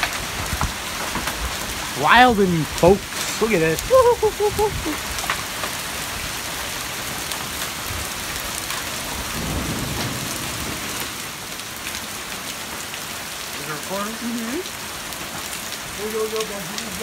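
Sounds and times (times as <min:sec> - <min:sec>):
hail and rain pattering: 0:00.0 - 0:17.0
hail pellets ticking: 0:00.0 - 0:17.0.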